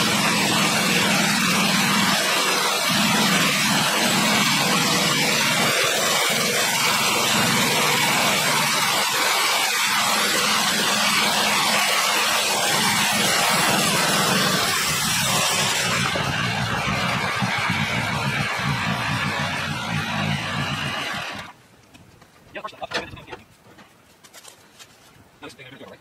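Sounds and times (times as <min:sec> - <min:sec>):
sawmill engine running: 0:00.0 - 0:21.6.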